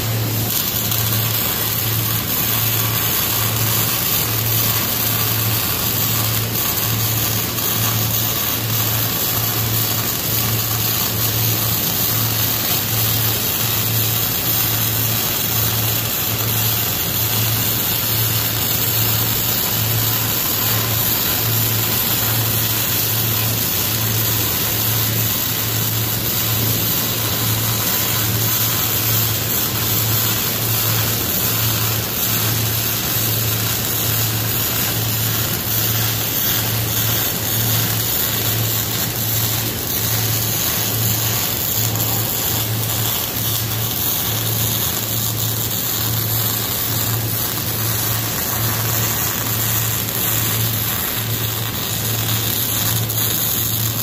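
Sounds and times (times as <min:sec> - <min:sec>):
welding arc crackling hiss: 0:00.0 - 0:54.0.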